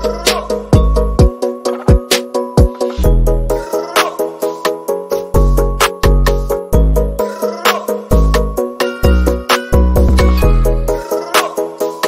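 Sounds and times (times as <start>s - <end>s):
electronic music with bass drum: 0.0s - 12.0s.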